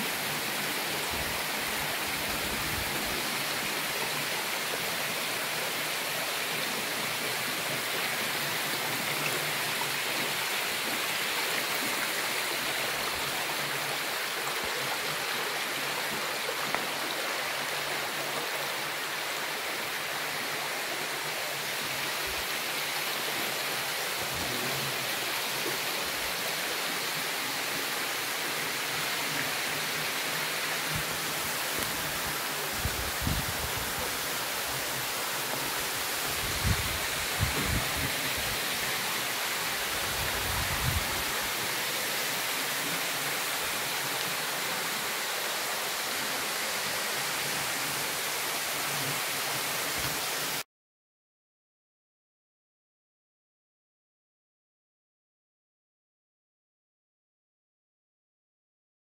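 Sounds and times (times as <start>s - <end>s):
creek water running over rocks: 0.0s - 50.6s.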